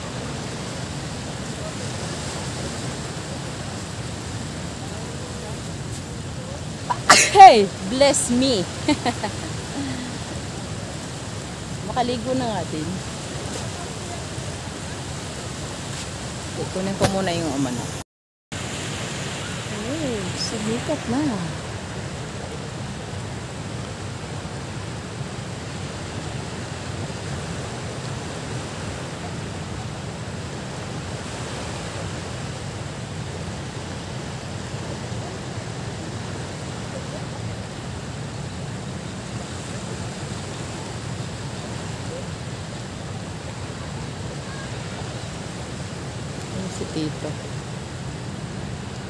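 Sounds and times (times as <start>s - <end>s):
small waves at shoreline: 0.0s - 49.0s
wind: 0.0s - 49.0s.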